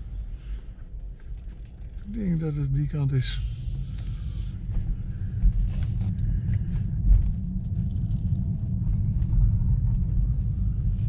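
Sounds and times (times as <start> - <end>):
road and tyre rumble in car: 0.0 - 11.0.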